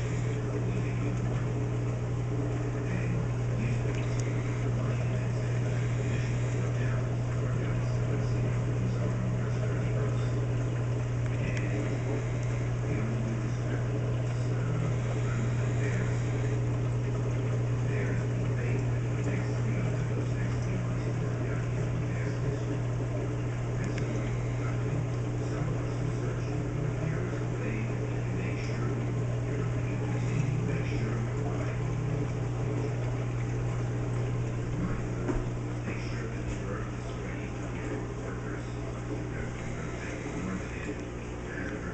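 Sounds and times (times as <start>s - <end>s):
aquarium pump hum: 0.0s - 41.9s
running water: 0.0s - 41.9s.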